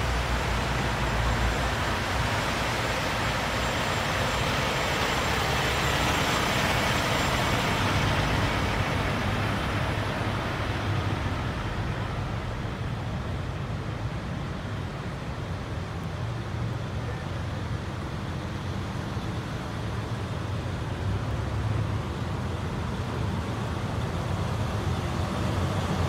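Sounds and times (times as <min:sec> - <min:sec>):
idling diesel truck engines: 0:00.0 - 0:26.0.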